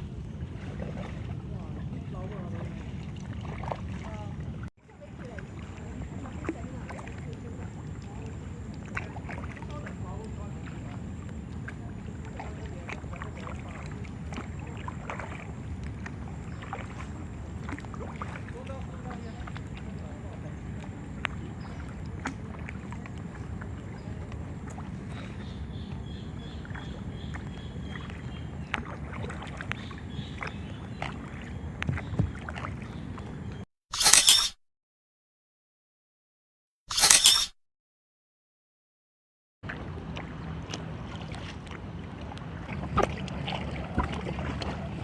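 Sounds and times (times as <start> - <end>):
paddles splashing in water: 0.0 - 34.1, 39.6 - 45.0.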